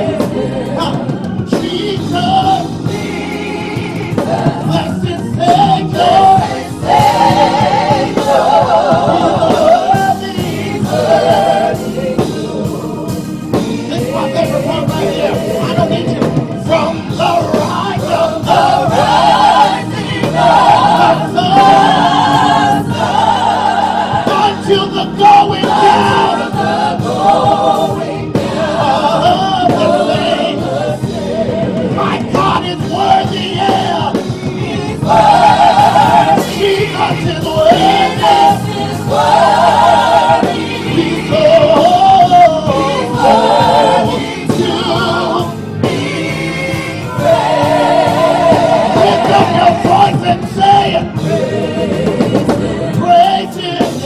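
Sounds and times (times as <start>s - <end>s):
group singing worship song: 0.0s - 54.0s.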